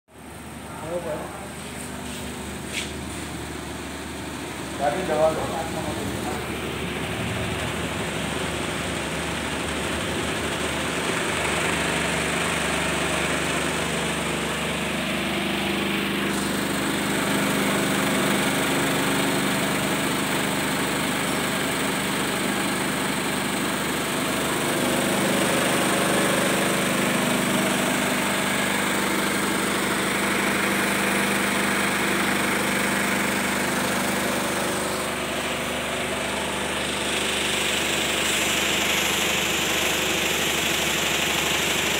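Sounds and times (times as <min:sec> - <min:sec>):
vibratory sifter motor hum: 0:00.1 - 0:41.9.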